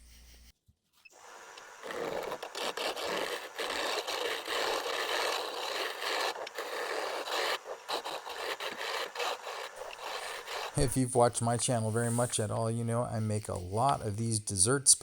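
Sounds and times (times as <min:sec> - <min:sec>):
tool scraping wood on lathe: 0:01.2 - 0:14.8.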